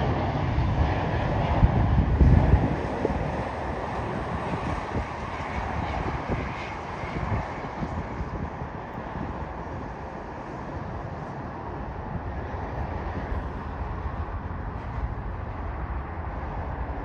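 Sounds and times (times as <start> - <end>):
aircraft engine rumble: 0.0 - 17.0
wind buffeting on microphone: 0.0 - 17.0.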